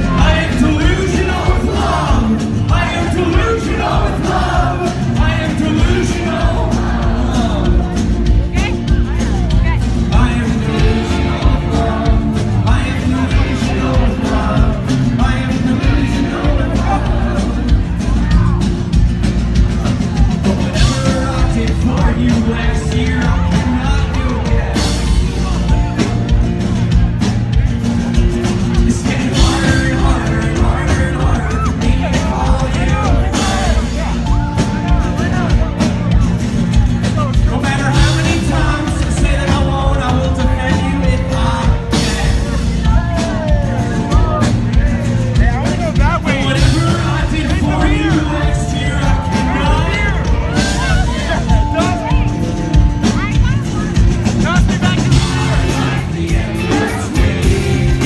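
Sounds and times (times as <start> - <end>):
person singing: 0.0 - 19.0, 19.8 - 26.3, 28.5 - 36.4, 37.0 - 58.0
drums: 0.0 - 58.0
live rock band: 0.0 - 58.0.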